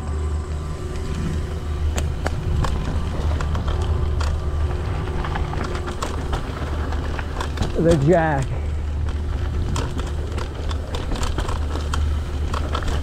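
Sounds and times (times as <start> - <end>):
bike clicks and rattles: 0.0 - 13.0
bike tyres rumbling on gravel: 0.0 - 13.0.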